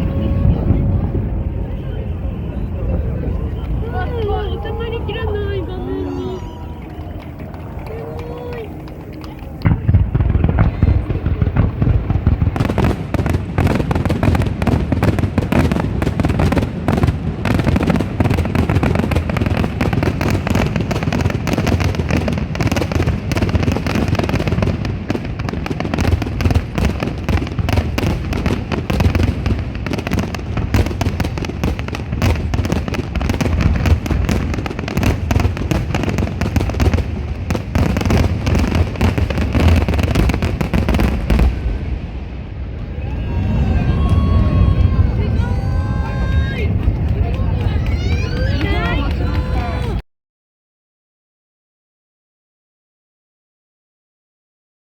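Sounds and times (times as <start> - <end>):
fireworks booming and crackling: 0.0 - 50.0.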